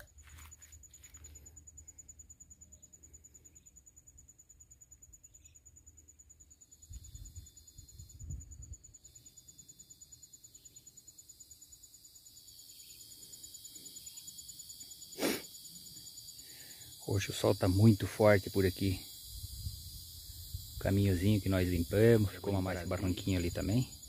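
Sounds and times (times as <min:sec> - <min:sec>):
high insect hiss: 0:00.0 - 0:24.0
high-pitched insect trill: 0:00.0 - 0:24.0.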